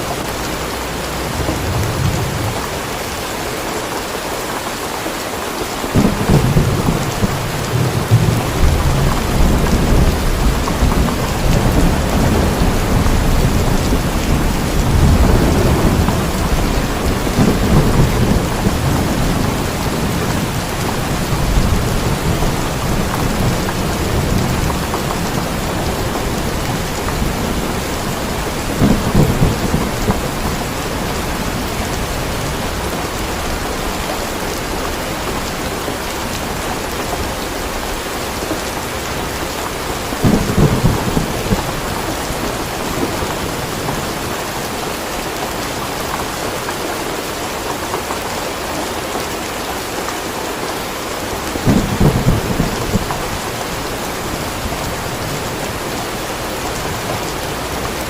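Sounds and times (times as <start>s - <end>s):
heavy rain: 0.0s - 58.0s
low thunder rumbles: 0.2s - 3.2s, 5.9s - 46.4s, 51.4s - 58.0s.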